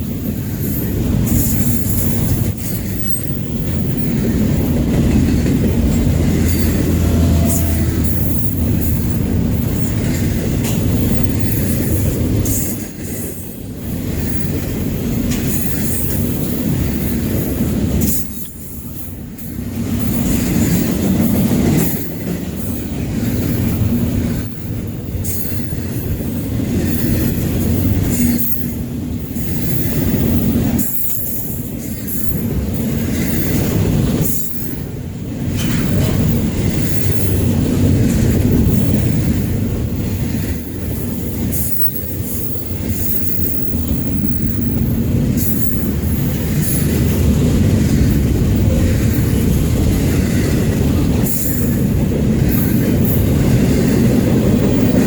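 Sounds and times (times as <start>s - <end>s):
train rumbling on tracks: 0.0s - 55.0s.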